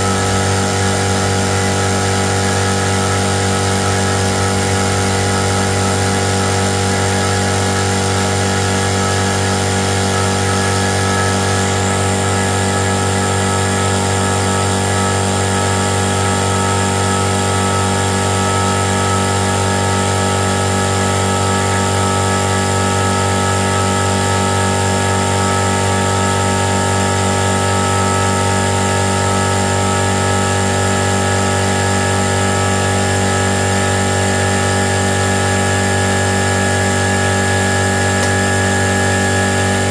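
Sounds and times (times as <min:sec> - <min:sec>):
power tool running: 0:00.0 - 0:39.9.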